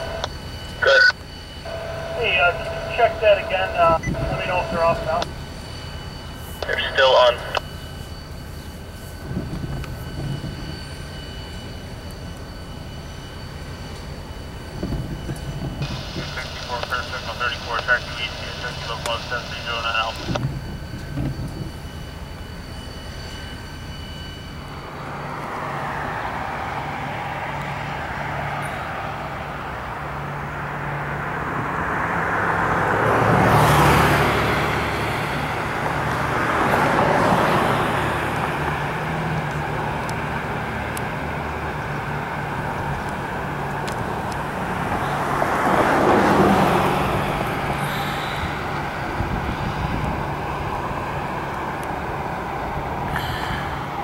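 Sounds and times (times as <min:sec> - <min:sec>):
diesel locomotives passing: 0:00.0 - 0:54.0.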